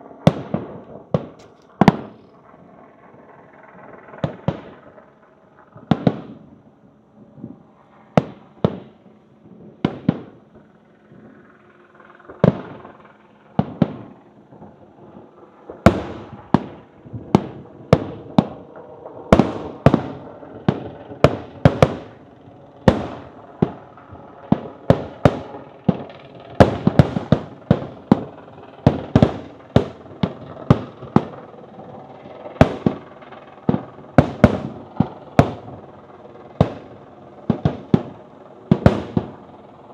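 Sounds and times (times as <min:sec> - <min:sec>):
fireworks bursting: 0:00.0 - 0:10.5, 0:12.3 - 0:39.9.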